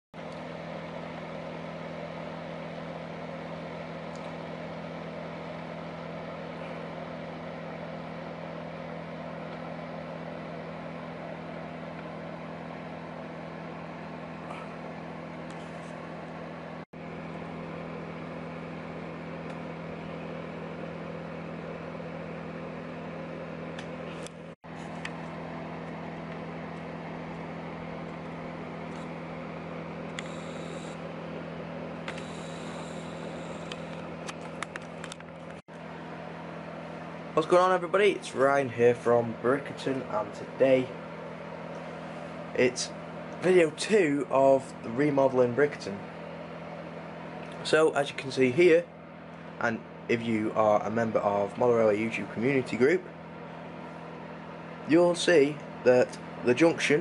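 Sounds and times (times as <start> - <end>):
electric hum: 0.2 - 57.0.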